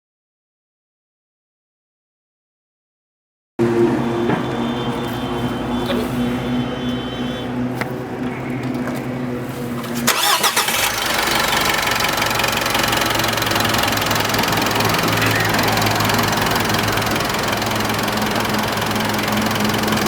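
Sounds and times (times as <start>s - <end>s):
diesel engine cranking: 3.6s - 20.0s
engine idling: 3.6s - 20.0s.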